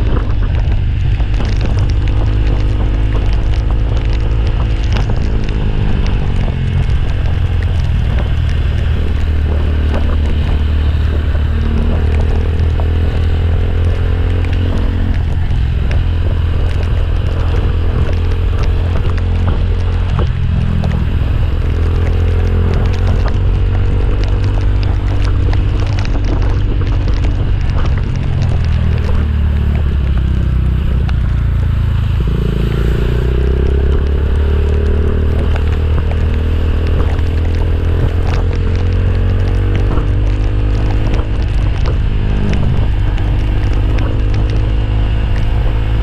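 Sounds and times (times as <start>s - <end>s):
motorcycle engine running: 0.0s - 46.0s
road and wind noise: 0.0s - 46.0s.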